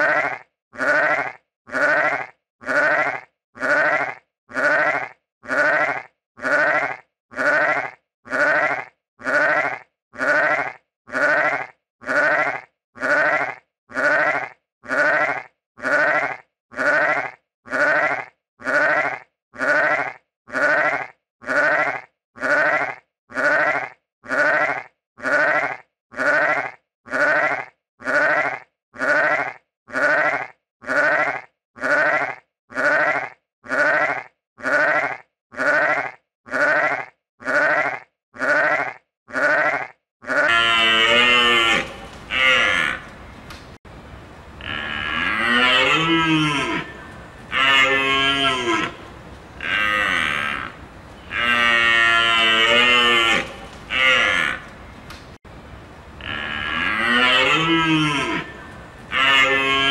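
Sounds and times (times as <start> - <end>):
sheep bleating: 0.0 - 43.2, 44.6 - 54.8, 56.2 - 59.9.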